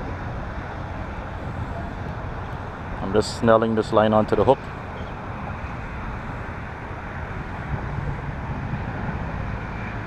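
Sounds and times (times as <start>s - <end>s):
outdoor rumble and hiss: 0.0s - 10.0s.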